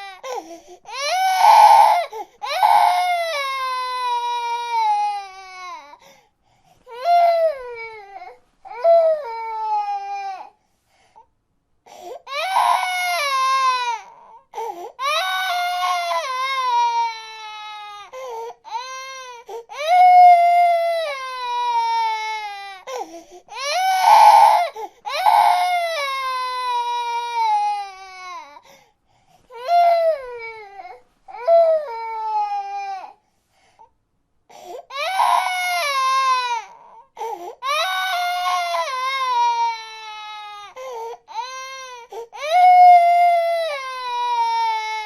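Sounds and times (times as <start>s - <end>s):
infant crying: 0.0s - 6.1s, 6.9s - 10.6s, 11.9s - 28.8s, 29.5s - 33.2s, 34.5s - 45.0s.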